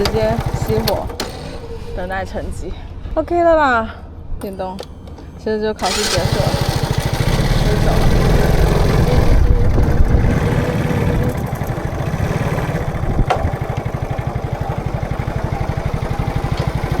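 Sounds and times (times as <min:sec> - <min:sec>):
motorcycle engine idling: 0:00.0 - 0:02.5, 0:04.4 - 0:17.0.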